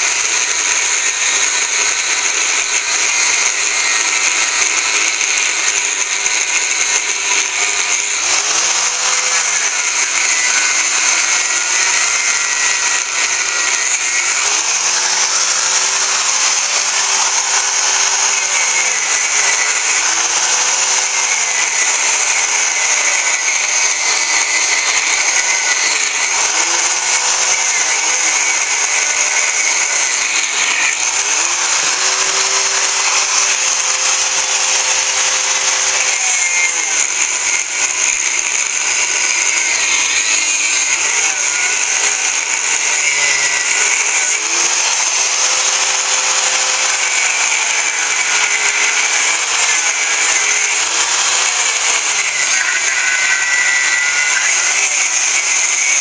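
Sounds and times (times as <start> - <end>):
angle grinder cutting metal: 0.0 - 56.0.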